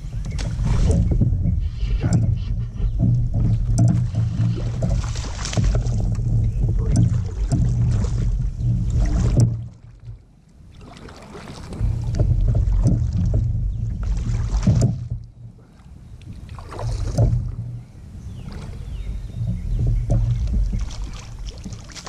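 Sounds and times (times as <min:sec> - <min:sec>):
water splashing off paddle: 0:00.0 - 0:17.8, 0:18.4 - 0:22.0
low rumble on microphone: 0:00.0 - 0:22.0.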